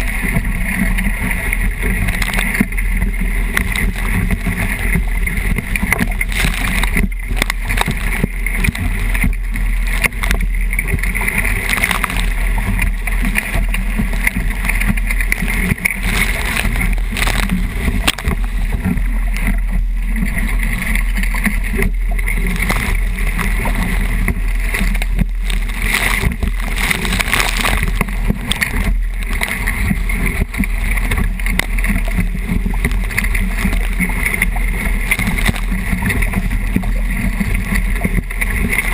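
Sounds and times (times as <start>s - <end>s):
water rushing along hull: 0.0s - 38.9s.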